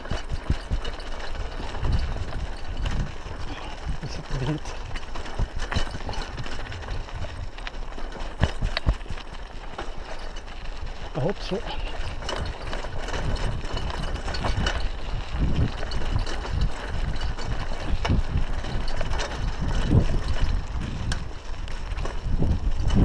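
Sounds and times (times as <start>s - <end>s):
bike rattling: 0.0s - 23.0s
bike tyres on loose gravel: 0.0s - 23.0s
wind rumble on microphone: 0.0s - 23.0s.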